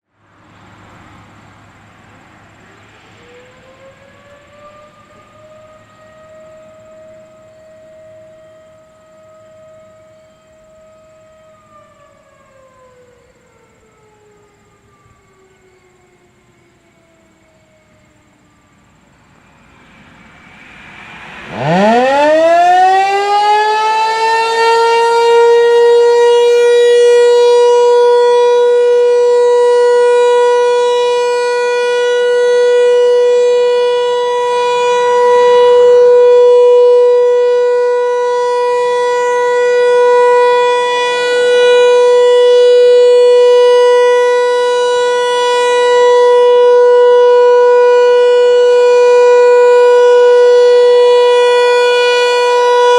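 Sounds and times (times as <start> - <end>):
rotating warning siren: 0.6 - 52.9.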